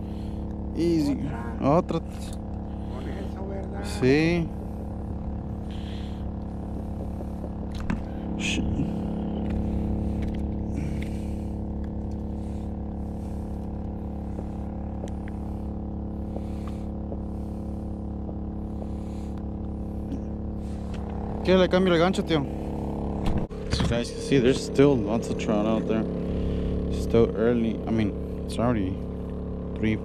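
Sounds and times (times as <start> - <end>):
generator humming: 0.0 - 30.0.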